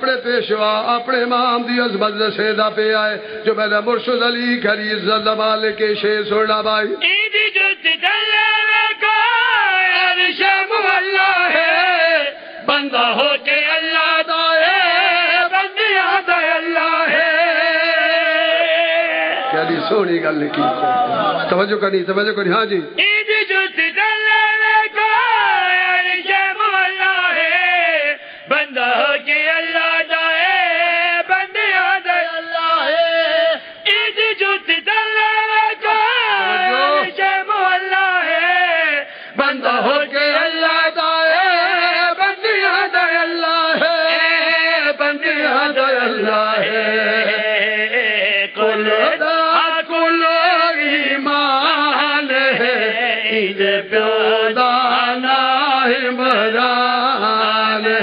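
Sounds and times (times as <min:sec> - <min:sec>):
men chanting a lament: 0:00.0 - 0:21.8, 0:23.0 - 0:58.0.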